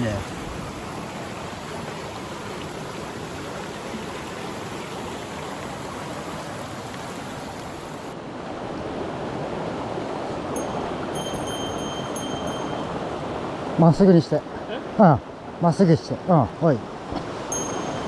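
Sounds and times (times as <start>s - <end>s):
mountain stream flowing: 0.0s - 18.0s.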